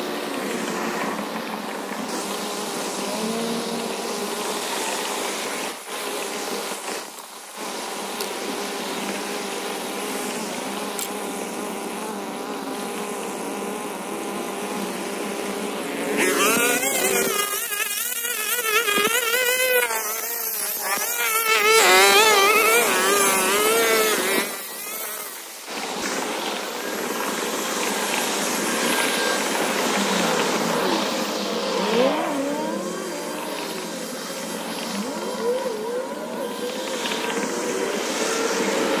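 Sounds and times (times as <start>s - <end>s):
string trimmer running: 0.0s - 39.0s.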